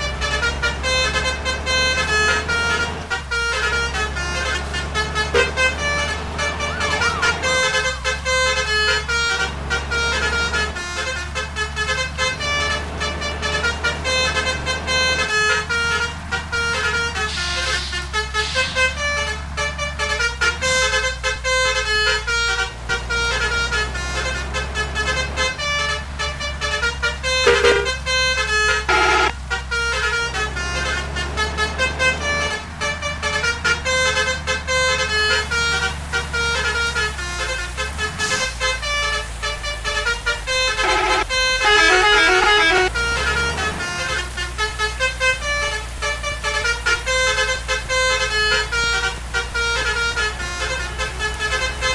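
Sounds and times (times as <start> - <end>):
bus air horn melody: 0.0 - 51.9
bus engine running: 0.0 - 51.9.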